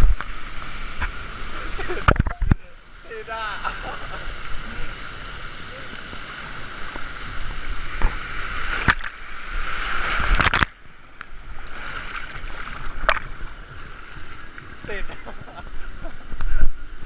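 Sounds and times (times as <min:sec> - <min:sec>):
water rushing along a slide: 0:00.0 - 0:17.0.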